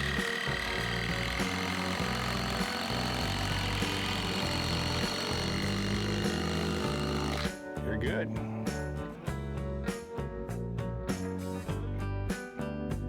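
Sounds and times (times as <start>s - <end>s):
background music with stepping bass: 0.0s - 13.0s.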